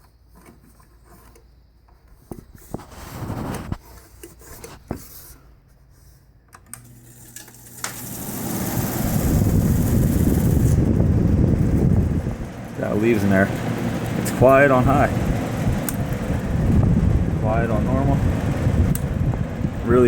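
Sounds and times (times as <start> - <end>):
air conditioner motor hum: 0.0 - 20.0
fan rushing air: 2.2 - 20.0.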